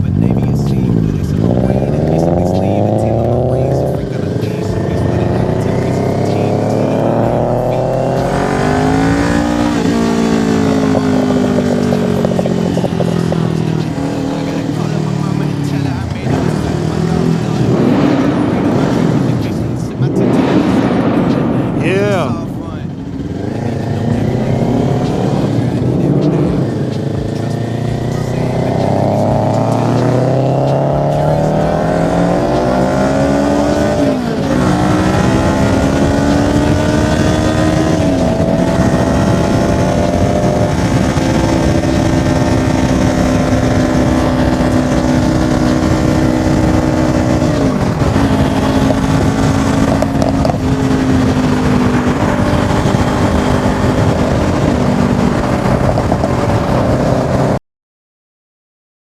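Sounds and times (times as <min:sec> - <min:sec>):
motorcycle engine accelerating: 0:00.0 - 0:57.6.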